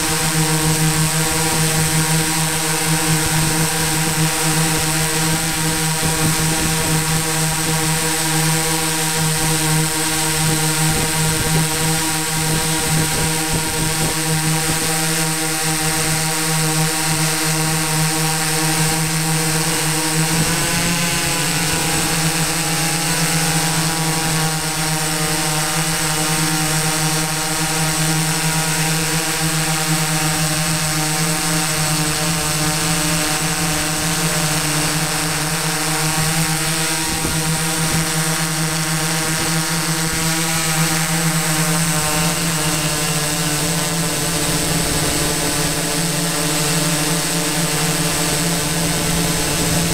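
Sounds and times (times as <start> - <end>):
drone propellers humming: 0.0 - 49.9.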